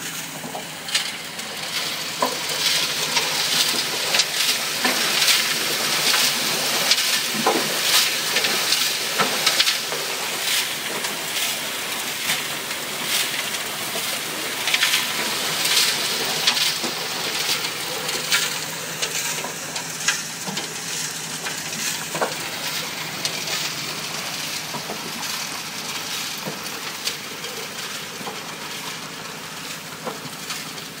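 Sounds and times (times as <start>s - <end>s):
water spraying: 0.0s - 30.1s.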